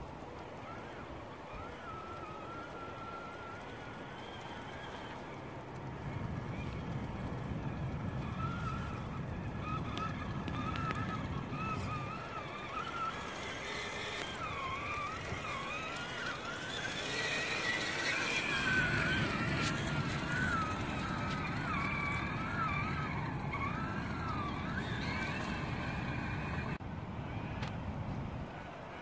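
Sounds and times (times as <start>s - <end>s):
toy truck electric motor whining: 0.6s - 26.8s.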